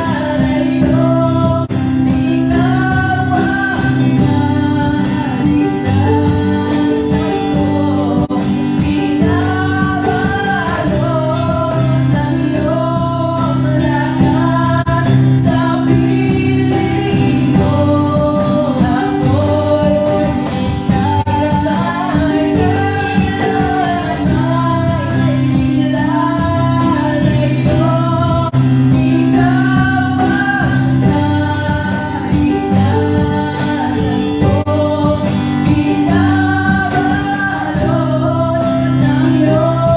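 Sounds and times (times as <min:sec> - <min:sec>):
band playing: 0:00.0 - 0:39.9
steady drum beat: 0:00.0 - 0:39.9
sustained bass: 0:00.0 - 0:39.9
voices singing: 0:00.0 - 0:39.9.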